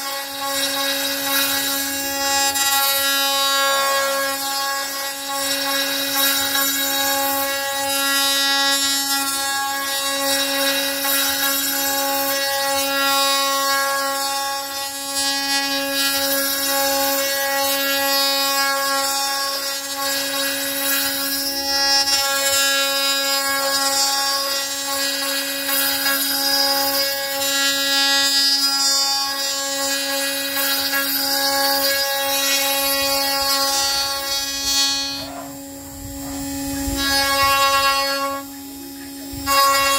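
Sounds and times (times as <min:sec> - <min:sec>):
spindle motor whining: 0:00.0 - 0:39.9
wood being cut hissing: 0:00.0 - 0:39.9.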